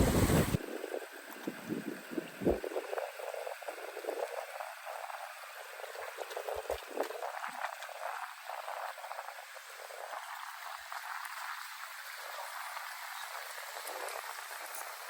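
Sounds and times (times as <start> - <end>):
water gurgling and trickling: 0.0 - 15.0.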